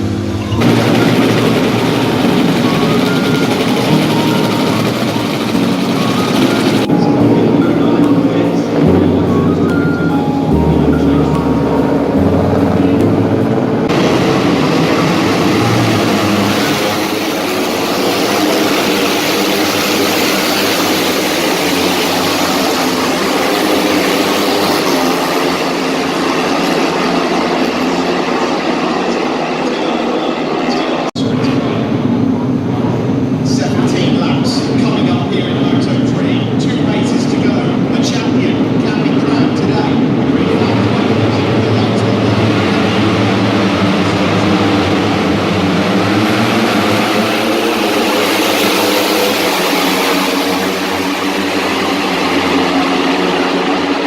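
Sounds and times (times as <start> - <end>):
dense rushing noise: 0.0 - 28.4, 31.2 - 54.0
low engine tones: 0.0 - 54.0
vehicle running noise: 0.0 - 54.0.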